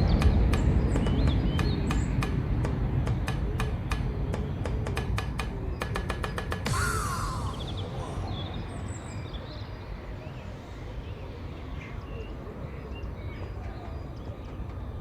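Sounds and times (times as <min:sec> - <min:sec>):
bird chirps: 0:00.0 - 0:15.0
low rumble of outdoor noise: 0:00.0 - 0:15.0.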